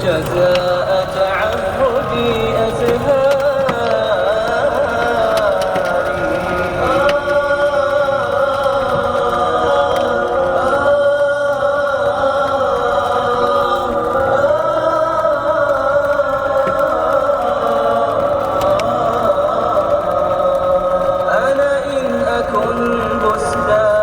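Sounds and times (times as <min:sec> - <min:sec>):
chanting voices: 0:00.0 - 0:24.0.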